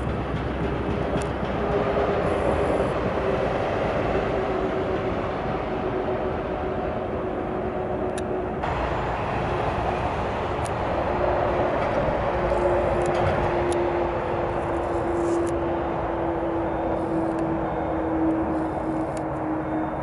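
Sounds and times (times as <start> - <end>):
steady humming tone: 0.0 - 20.0
train rolling rumble: 0.0 - 20.0.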